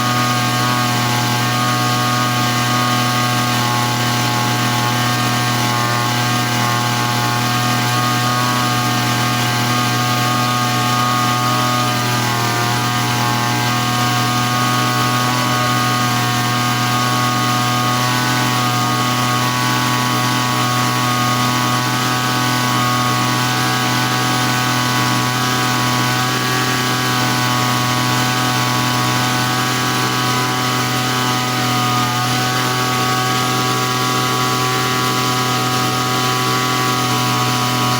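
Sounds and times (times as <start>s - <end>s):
small engine running steadily: 0.0s - 37.9s.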